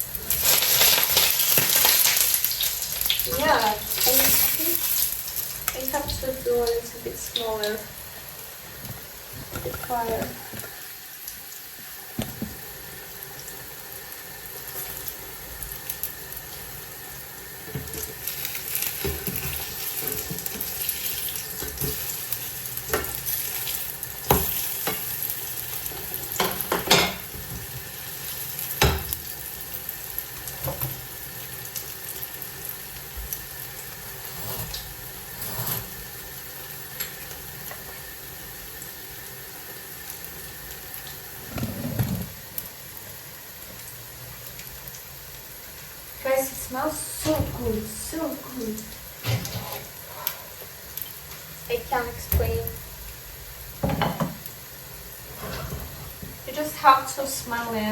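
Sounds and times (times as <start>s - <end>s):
pancakes sizzling in oil: 0.0s - 57.9s.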